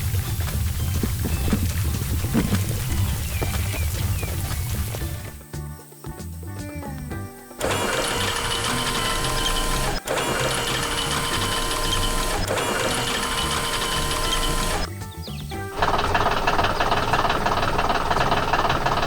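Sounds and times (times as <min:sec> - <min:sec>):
fast mechanical-sounding music: 0:00.0 - 0:06.4, 0:07.5 - 0:19.0.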